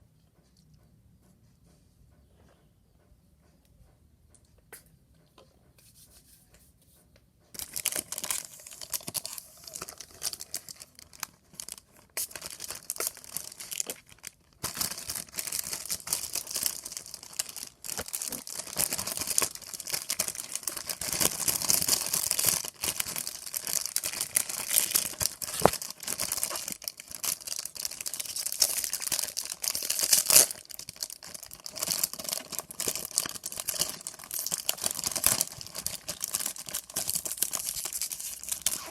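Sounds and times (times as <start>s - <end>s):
packaging tearing and crinkling: 7.6s - 38.9s.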